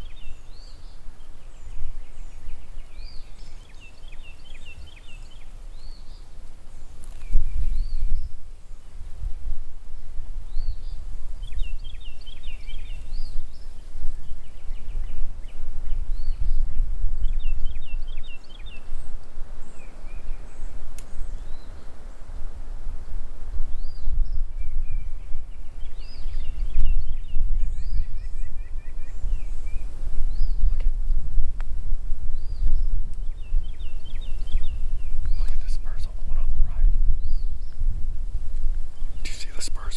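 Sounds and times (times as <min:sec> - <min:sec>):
small birds chirping and trilling: 0:00.0 - 0:09.5, 0:10.4 - 0:22.4, 0:23.6 - 0:30.9, 0:32.3 - 0:38.0, 0:38.6 - 0:39.9
wind buffeting microphone: 0:00.0 - 0:39.9.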